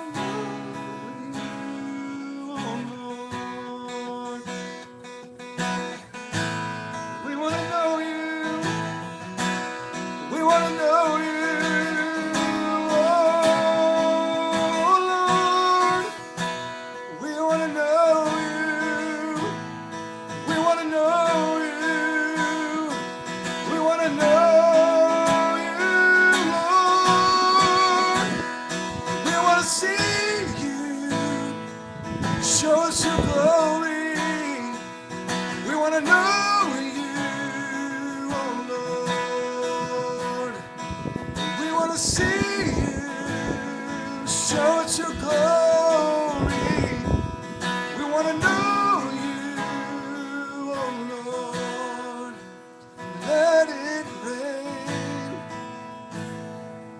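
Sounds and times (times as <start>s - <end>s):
man singing worship song: 0.0s - 5.0s, 6.9s - 55.8s
acoustic guitar strumming: 0.0s - 56.9s.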